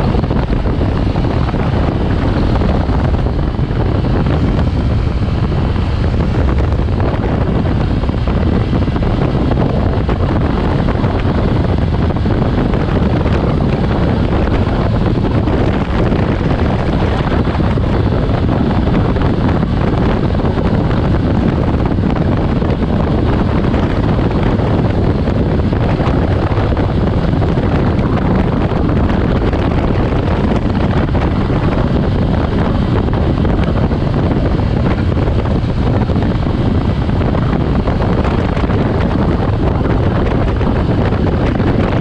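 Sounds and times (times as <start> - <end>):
motorcycle engine: 0.0 - 42.0
road noise: 0.0 - 42.0
wind noise on microphone: 0.0 - 42.0.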